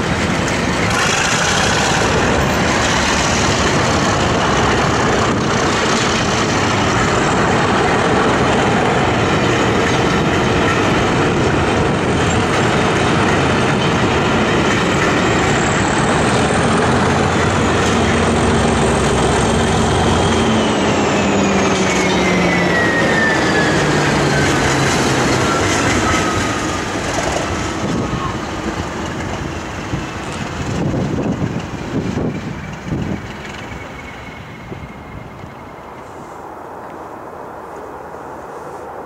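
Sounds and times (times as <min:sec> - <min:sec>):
train wheels rolling over rails: 0:00.0 - 0:36.4
diesel locomotive passing: 0:00.0 - 0:39.0.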